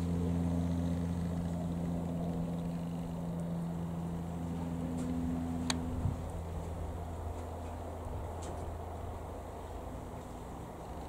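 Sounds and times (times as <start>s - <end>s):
propeller aircraft passing overhead: 0.0s - 11.0s.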